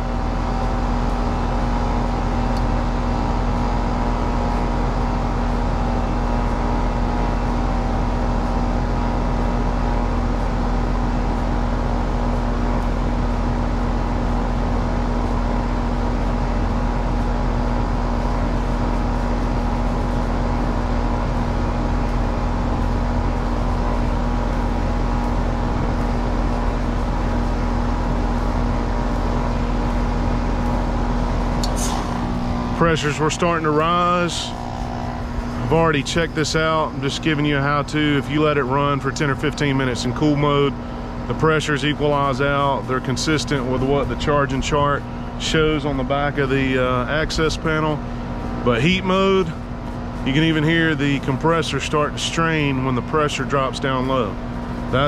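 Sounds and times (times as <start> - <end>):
heat pump unit humming: 0.0 - 55.0.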